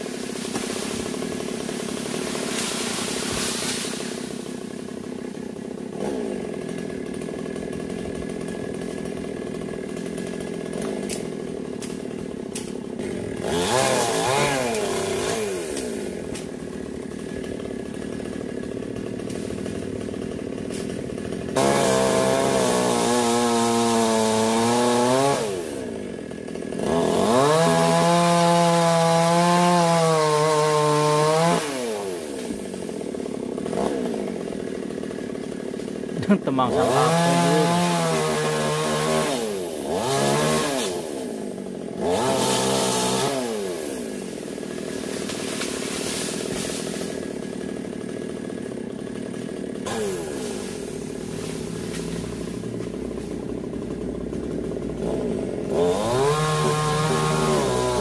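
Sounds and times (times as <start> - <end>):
chainsaw cutting wood: 0.0 - 58.0
chainsaw idling: 0.0 - 58.0.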